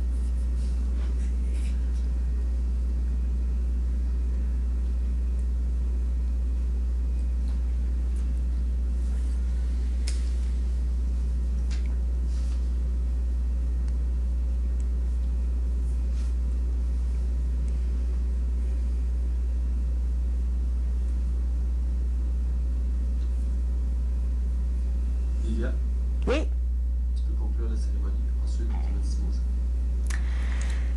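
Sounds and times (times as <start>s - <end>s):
low electrical hum: 0.0s - 30.9s.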